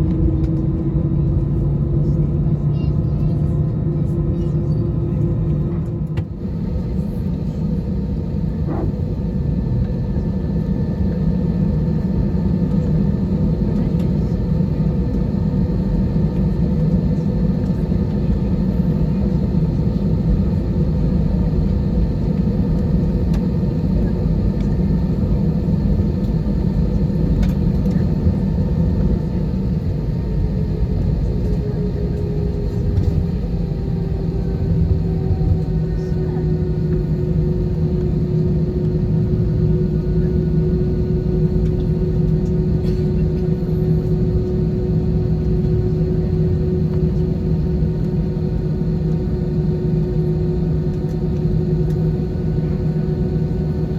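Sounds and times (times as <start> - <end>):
aircraft engine and airflow rumble: 0.0 - 53.9
constant hum: 0.0 - 53.9.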